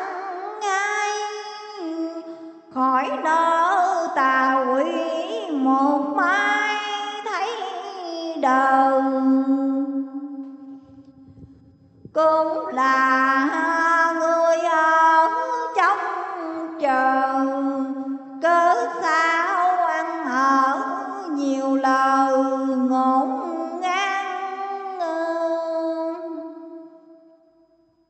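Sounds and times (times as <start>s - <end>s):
person chanting in slow melody: 0.0s - 27.4s.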